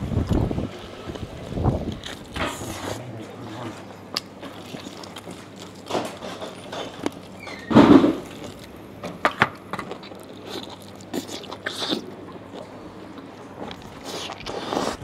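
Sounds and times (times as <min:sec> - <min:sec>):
person chewing meat: 0:00.2 - 0:15.0.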